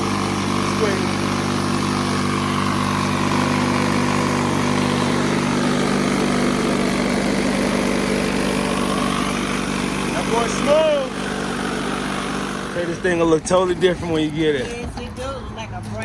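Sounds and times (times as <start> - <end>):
lawn mower engine running: 0.0 - 15.2.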